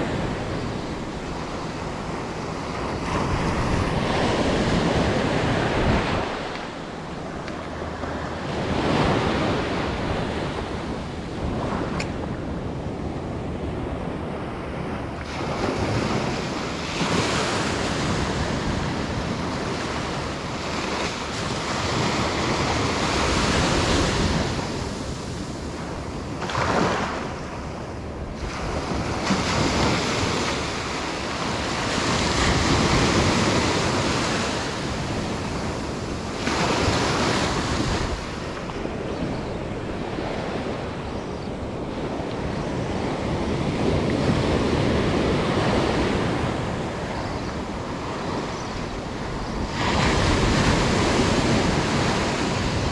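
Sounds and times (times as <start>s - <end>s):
ocean surf washing ashore: 0.0s - 52.9s
wind buffeting microphone: 0.0s - 52.9s.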